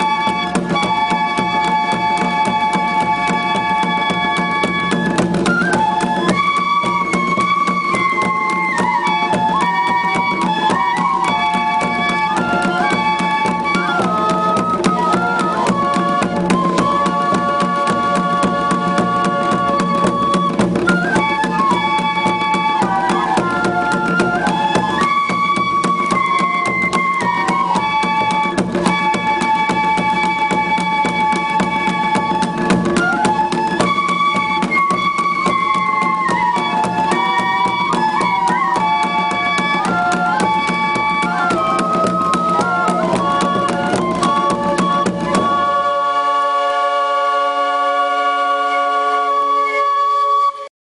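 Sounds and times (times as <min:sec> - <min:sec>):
drumming on large drums: 0:00.0 - 0:45.9
bamboo flutes playing folk melody: 0:00.0 - 0:50.7.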